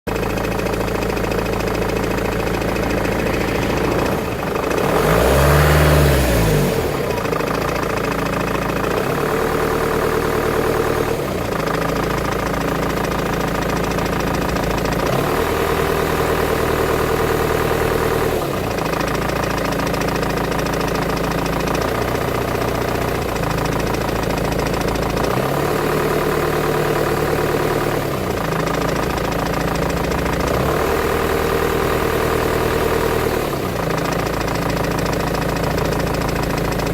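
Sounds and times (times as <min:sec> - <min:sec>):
diesel engine idling with rattle: 0:00.1 - 0:36.9
engine revving: 0:00.2 - 0:36.9.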